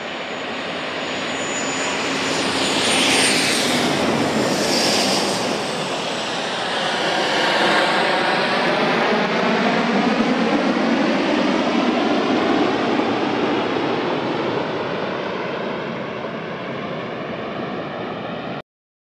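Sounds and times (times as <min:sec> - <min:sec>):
jet engine rushing: 0:00.0 - 0:15.9.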